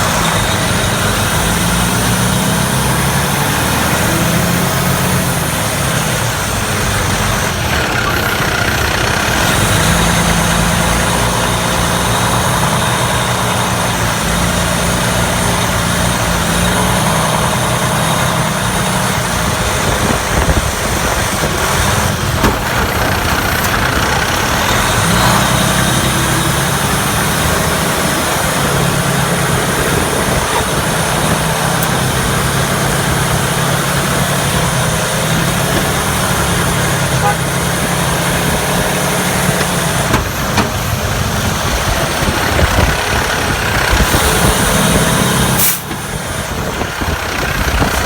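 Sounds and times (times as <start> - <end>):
truck diesel engine running: 0.0 - 48.0.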